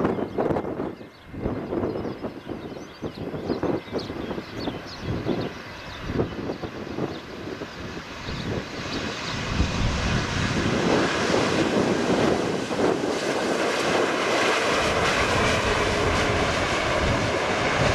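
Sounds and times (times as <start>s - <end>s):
jet engines rushing: 0.0s - 17.9s
wind buffeting microphone: 0.0s - 17.9s.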